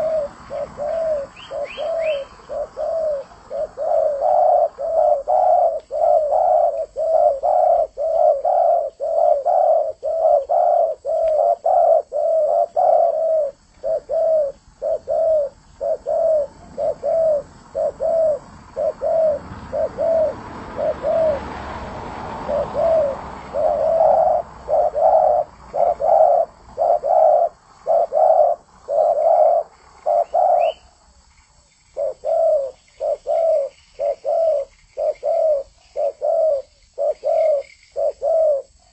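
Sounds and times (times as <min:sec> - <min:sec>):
dove cooing: 0:00.0 - 0:31.0, 0:31.9 - 0:38.9.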